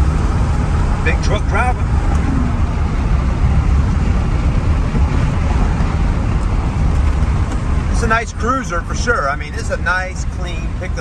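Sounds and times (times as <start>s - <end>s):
heavy low rumble: 0.0s - 11.0s
road and wind noise: 0.0s - 11.0s.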